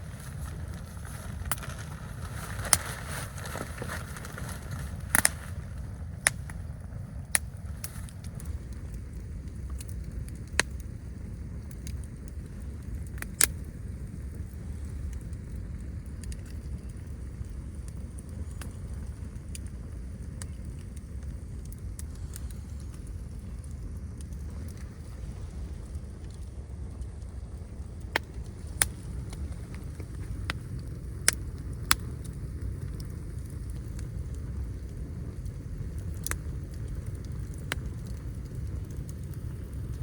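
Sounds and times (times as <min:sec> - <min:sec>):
campfire crackling and popping: 0:00.0 - 0:40.0
low wind rumble: 0:00.0 - 0:40.0.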